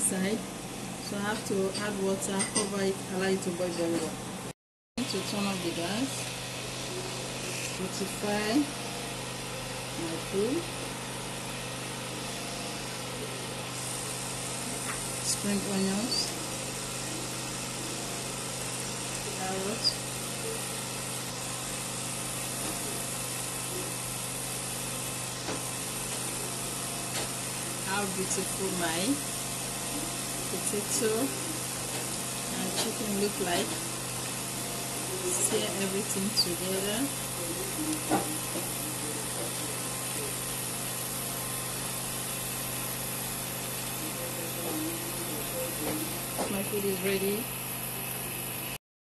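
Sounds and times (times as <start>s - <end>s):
steady machine hum: 0.0s - 48.8s.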